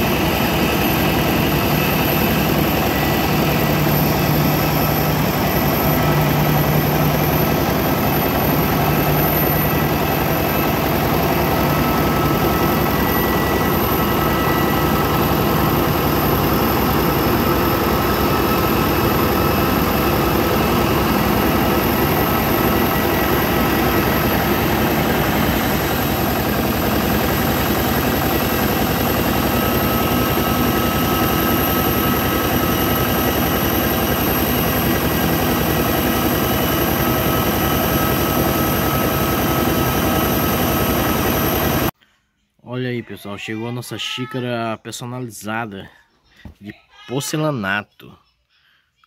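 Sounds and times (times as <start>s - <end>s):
jet engine whine: 0.0s - 42.0s.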